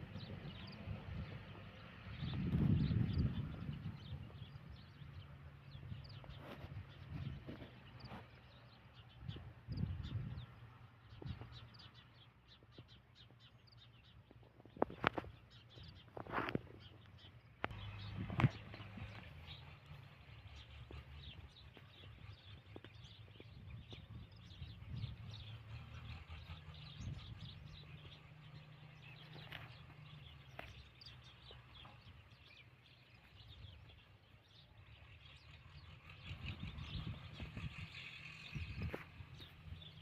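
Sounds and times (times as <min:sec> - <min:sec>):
birds chirping faintly: 0:00.0 - 0:40.0.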